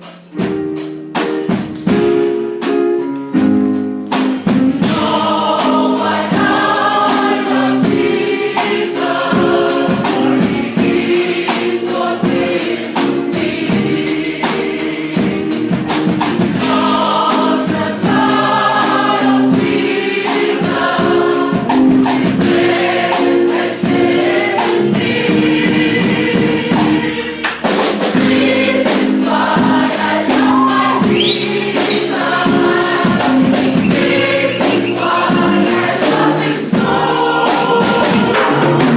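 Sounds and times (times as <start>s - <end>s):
band with percussive beat: 0.0s - 38.9s
choir singing worship song: 4.4s - 38.9s.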